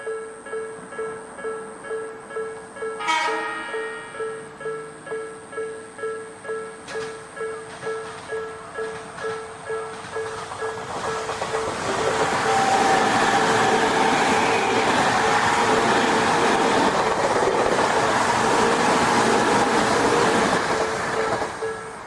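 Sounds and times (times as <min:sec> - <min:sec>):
crossing warning bell dinging: 0:00.0 - 0:22.0
electric train passing: 0:00.0 - 0:22.0.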